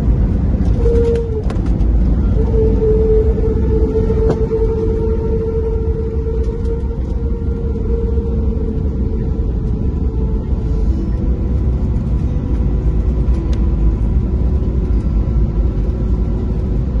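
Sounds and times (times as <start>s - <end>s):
faint engine hum: 0.0s - 17.0s
wheels and jet engines rumbling: 0.0s - 17.0s.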